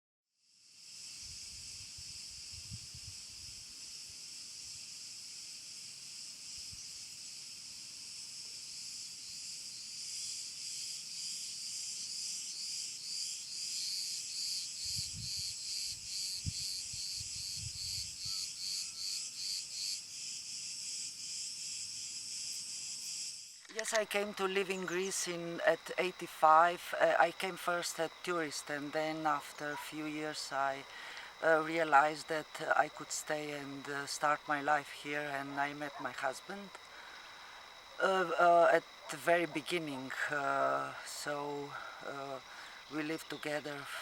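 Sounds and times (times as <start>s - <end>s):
insects buzzing: 0.4s - 44.0s.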